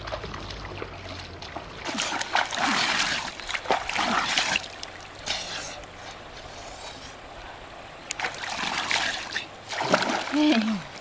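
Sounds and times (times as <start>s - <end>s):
river trickling: 0.0s - 11.0s.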